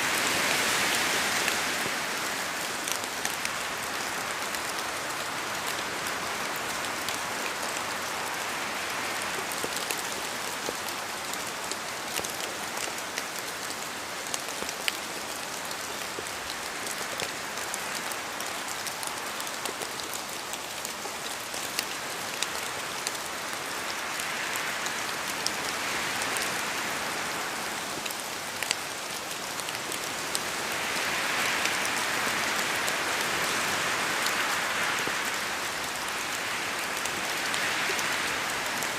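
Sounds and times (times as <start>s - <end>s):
rain falling in forest: 0.0s - 38.9s
raindrops hitting leaves: 0.0s - 38.9s.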